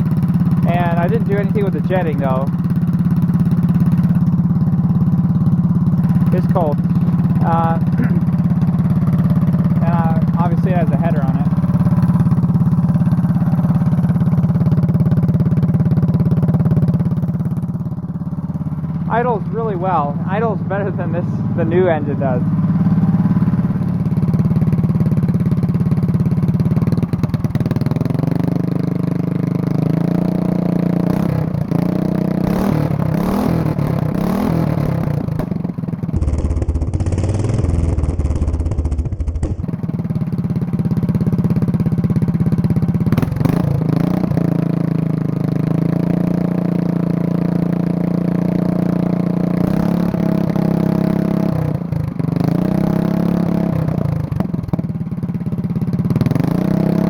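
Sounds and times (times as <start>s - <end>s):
go-kart engine idling and revving: 0.0s - 57.0s.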